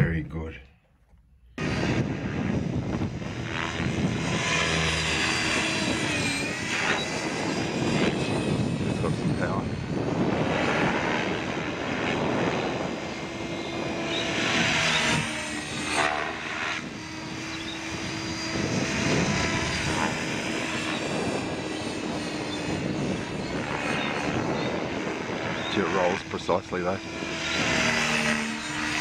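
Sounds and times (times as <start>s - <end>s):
helicopter rotor noise: 0.0s - 29.0s
steady hum: 0.0s - 29.0s.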